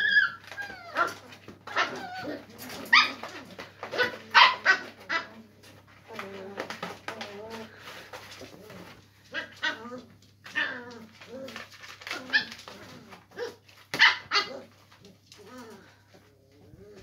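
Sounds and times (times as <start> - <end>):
puppies barking and yipping: 0.0 - 16.0.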